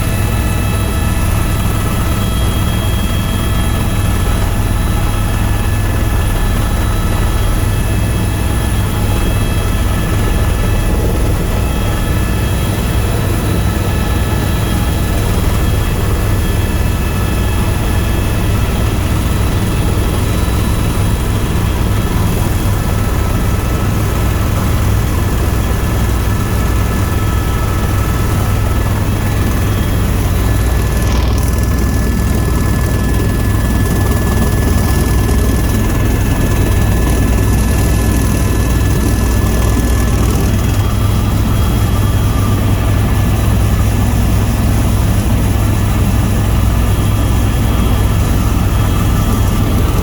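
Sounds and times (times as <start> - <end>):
helicopter rotor and engine noise: 0.0 - 50.0.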